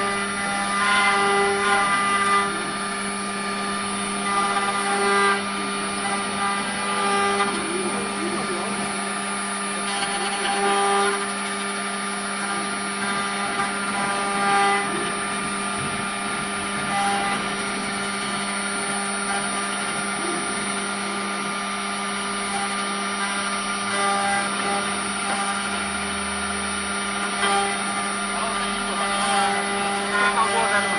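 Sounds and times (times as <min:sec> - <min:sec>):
end mill cutting wood: 0:00.0 - 0:30.9
router spindle whining: 0:00.0 - 0:30.9.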